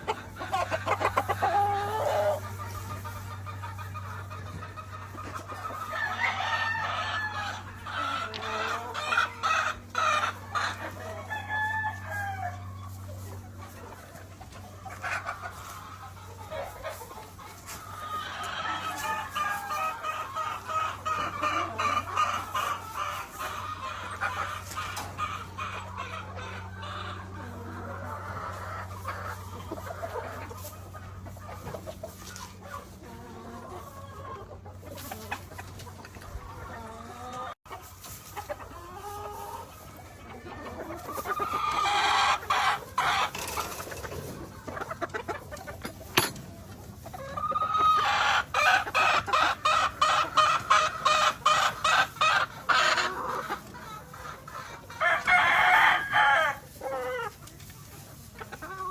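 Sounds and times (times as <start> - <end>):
roosters crowing and clucking: 0.0 - 58.9.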